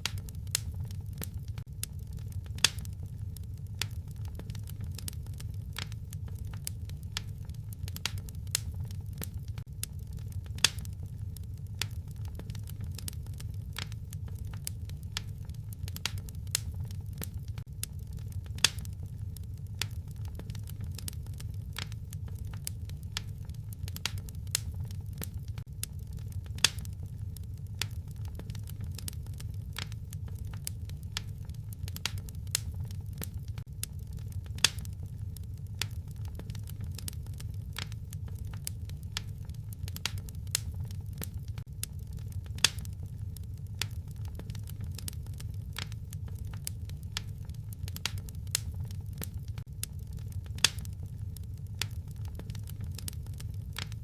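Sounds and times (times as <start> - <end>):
fireplace fire crackling: 0.0 - 54.0.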